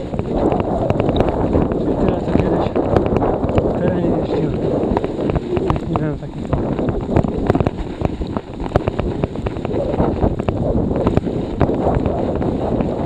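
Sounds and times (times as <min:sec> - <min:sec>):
sharp clicks and knocks: 0:00.0 - 0:11.8
wind buffeting microphone: 0:00.0 - 0:13.0.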